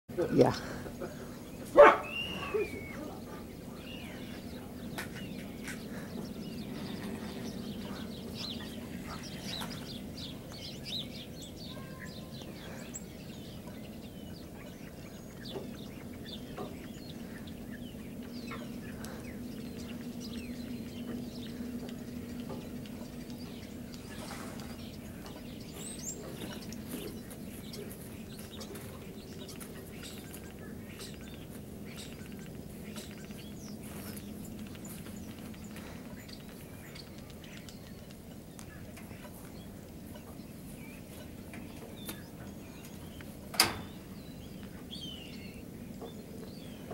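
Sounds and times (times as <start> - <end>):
birds chirping: 0.1 - 46.9
low hum: 0.6 - 46.9.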